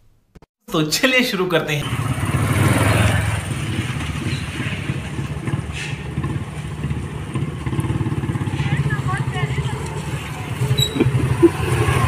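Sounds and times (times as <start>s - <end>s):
scooter engines passing: 1.8s - 12.0s.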